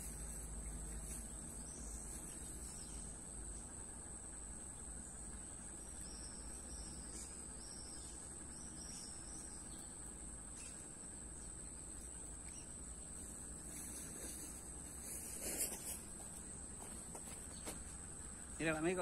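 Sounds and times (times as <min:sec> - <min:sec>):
faint low rumble: 0:00.0 - 0:19.0
insects trilling: 0:00.0 - 0:19.0.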